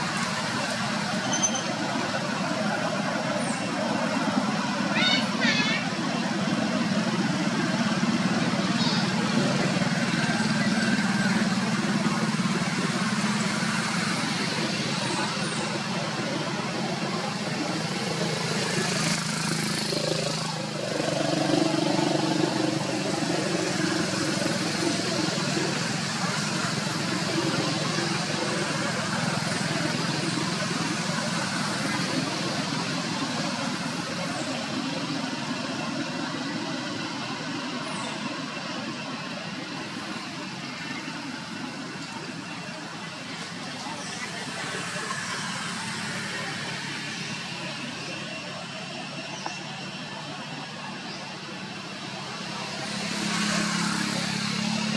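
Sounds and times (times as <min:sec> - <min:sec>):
motor engine running: 0:00.0 - 0:54.9
outdoor background noise: 0:00.0 - 0:54.9.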